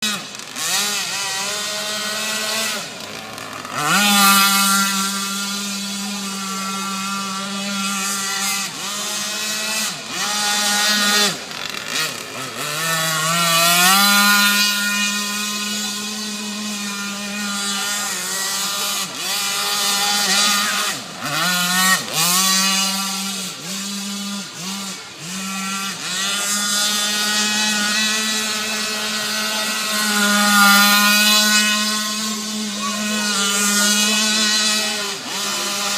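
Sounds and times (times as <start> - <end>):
model boat engine running: 0.0 - 35.9.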